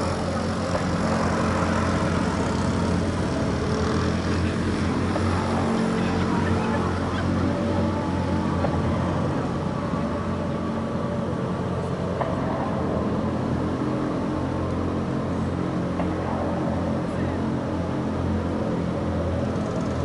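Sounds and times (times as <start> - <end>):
low mechanical hum with rumble: 0.0 - 20.0.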